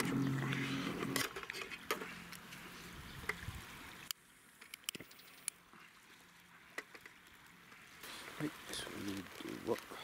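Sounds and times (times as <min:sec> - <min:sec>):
faint steady hiss: 0:01.9 - 0:10.0.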